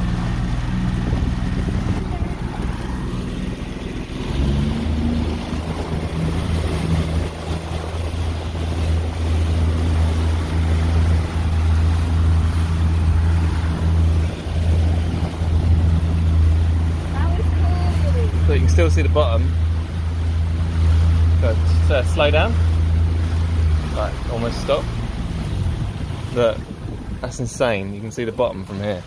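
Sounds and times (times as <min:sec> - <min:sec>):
outboard motor drone: 0:00.0 - 0:29.0.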